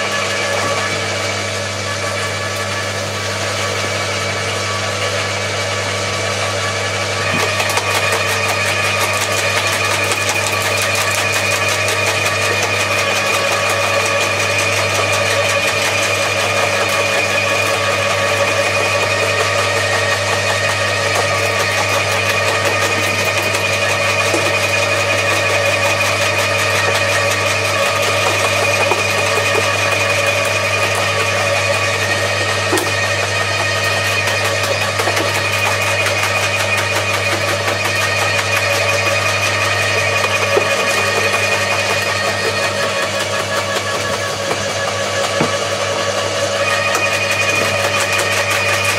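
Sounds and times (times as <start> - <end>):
shredder motor hum: 0.0 - 48.9.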